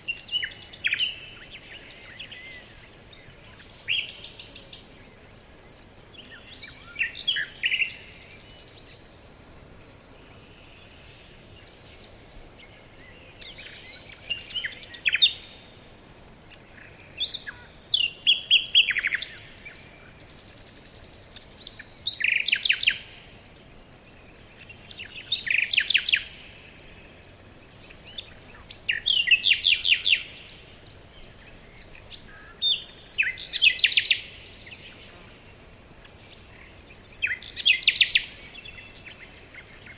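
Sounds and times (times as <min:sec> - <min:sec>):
faint background hiss: 0:00.0 - 0:39.9
songbird chirping: 0:00.0 - 0:39.9.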